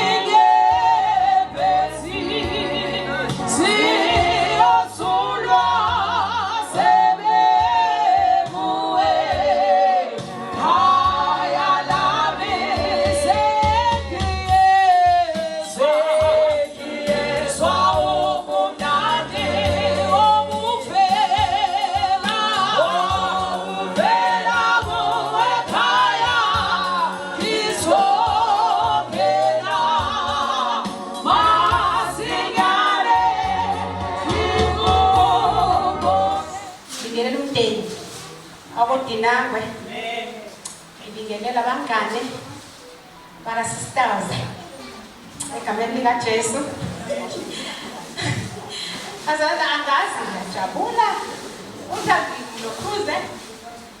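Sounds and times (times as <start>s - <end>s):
choir singing gospel: 0.0s - 54.0s.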